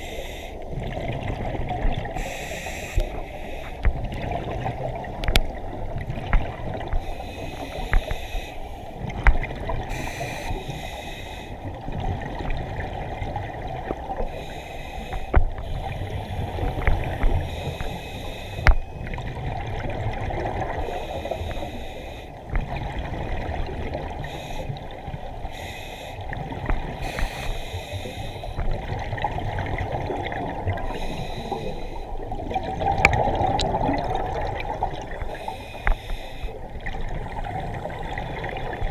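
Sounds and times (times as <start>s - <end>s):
scuba breathing bubbles underwater: 0.0s - 38.9s.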